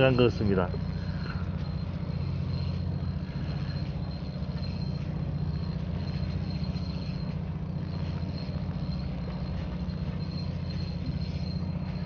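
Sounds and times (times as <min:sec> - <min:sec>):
boat engine pulsing drone: 0:00.0 - 0:12.0
thin high whine: 0:00.0 - 0:12.0.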